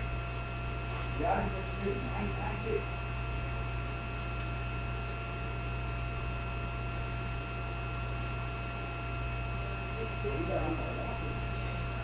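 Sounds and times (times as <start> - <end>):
faint high whine: 0.0 - 12.0
steady hum and hiss: 0.0 - 12.0.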